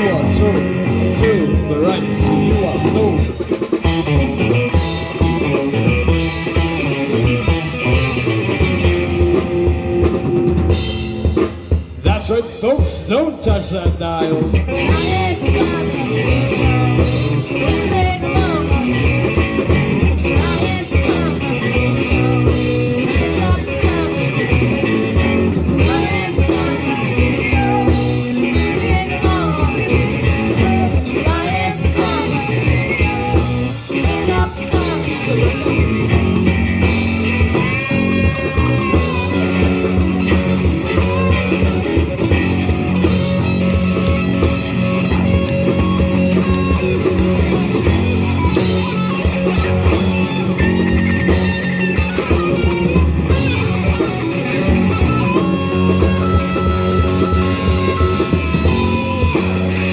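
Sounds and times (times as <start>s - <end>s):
electric guitar lead: 0.0s - 59.9s
rock band playing: 0.0s - 59.9s.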